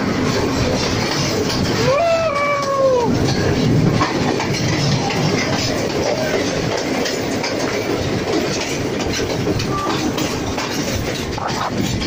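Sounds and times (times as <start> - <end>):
train rumbling: 0.0 - 12.0
wheels clattering over rails: 0.0 - 12.0.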